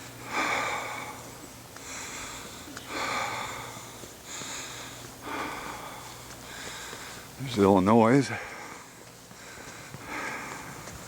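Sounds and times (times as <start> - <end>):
person breathing close: 0.0 - 7.4, 8.3 - 11.0
faint low hum: 0.0 - 11.0.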